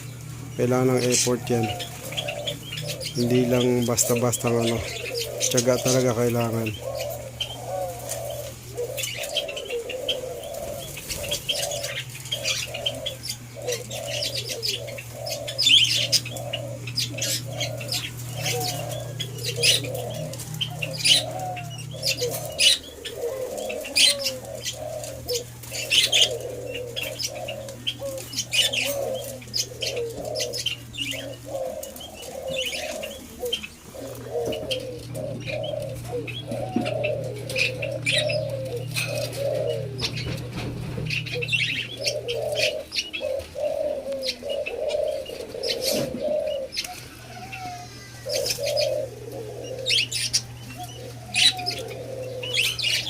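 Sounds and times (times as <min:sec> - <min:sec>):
doves cooing: 0:00.0 - 0:53.0
steady low hum: 0:00.0 - 0:53.0.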